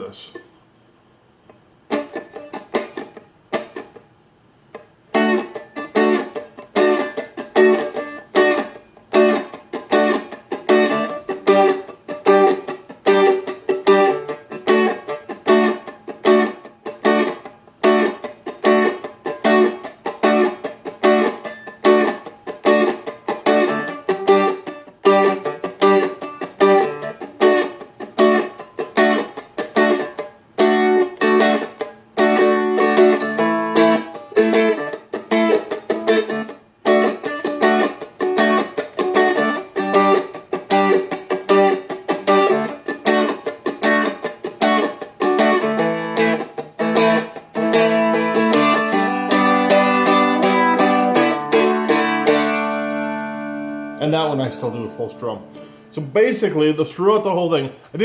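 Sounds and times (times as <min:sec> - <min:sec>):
fretted string instrument strummed: 0:01.9 - 0:04.0, 0:04.8 - 0:56.6.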